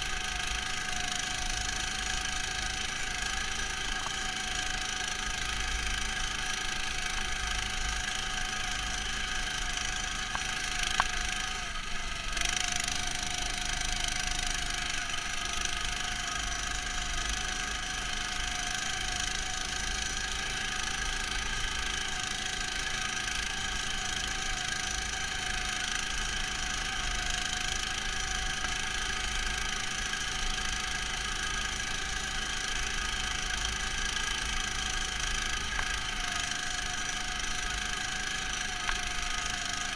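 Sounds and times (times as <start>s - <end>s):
muffled small engine running: 0.0s - 39.9s.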